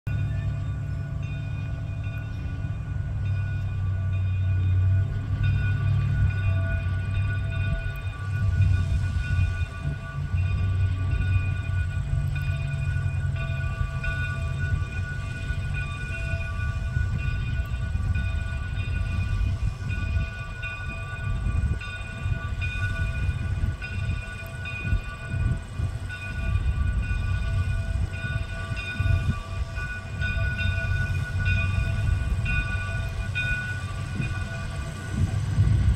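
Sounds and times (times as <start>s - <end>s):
steam locomotive exhaust chuffing: 0.1s - 35.9s.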